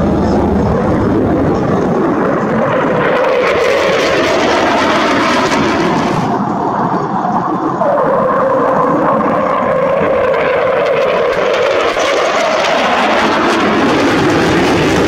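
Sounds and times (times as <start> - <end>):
jet fighter flying past: 0.0 - 15.0.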